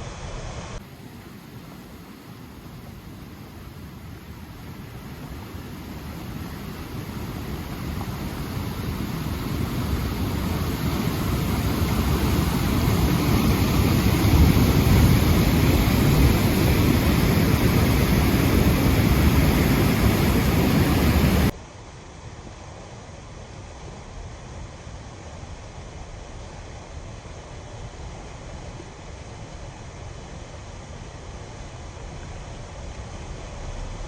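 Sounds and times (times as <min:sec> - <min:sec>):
river rushing in flood: 0:00.0 - 0:34.0.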